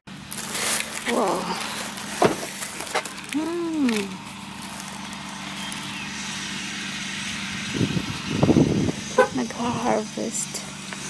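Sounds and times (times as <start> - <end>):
low rumbling: 0.1 - 11.0
vehicle engine hum: 0.1 - 11.0.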